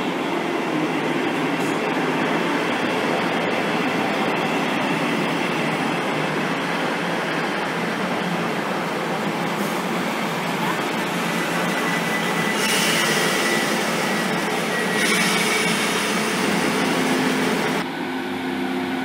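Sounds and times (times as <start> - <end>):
diesel train passing: 0.0 - 19.0.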